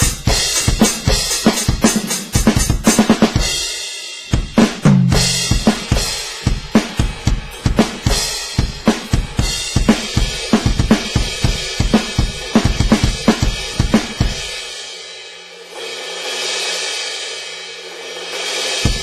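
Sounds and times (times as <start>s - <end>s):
rock drum kit groove: 0.0s - 19.0s.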